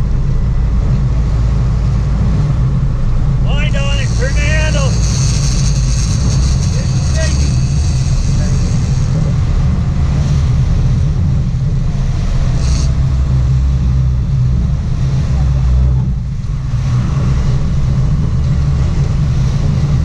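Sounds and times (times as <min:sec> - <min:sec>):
boat engines rumbling: 0:00.0 - 0:20.0
water churning in wake: 0:00.0 - 0:20.0.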